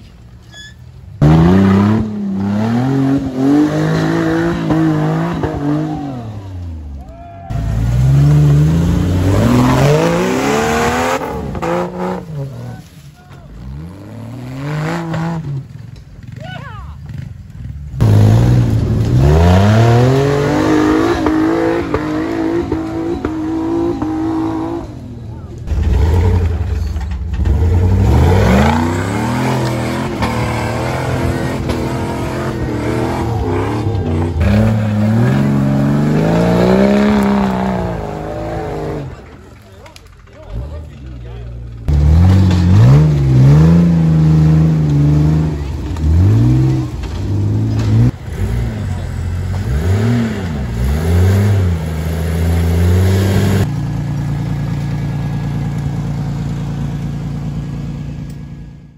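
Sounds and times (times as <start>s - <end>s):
off-road engine revving: 1.2s - 58.9s.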